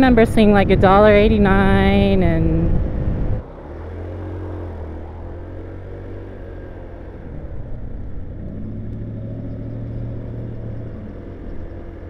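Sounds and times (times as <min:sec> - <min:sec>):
road noise: 0:00.0 - 0:12.0
scooter engine running: 0:00.0 - 0:12.0.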